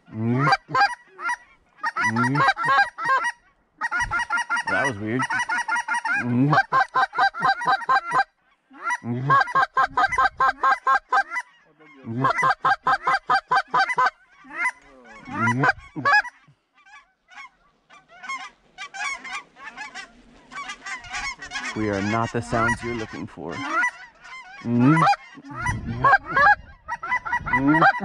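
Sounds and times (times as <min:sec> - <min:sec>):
goose call clucks: 0:00.0 - 0:28.0.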